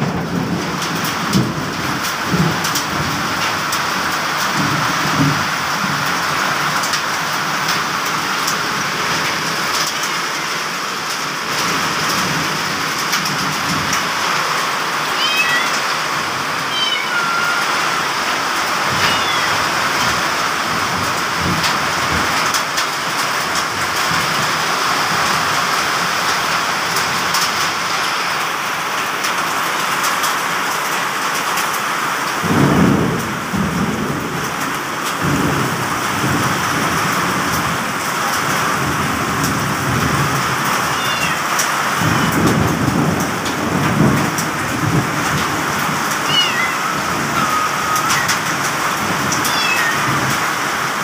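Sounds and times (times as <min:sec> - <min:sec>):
thunder rumbling: 0:00.0 - 0:29.4, 0:32.4 - 0:51.0
heavy rain pouring: 0:00.0 - 0:51.0.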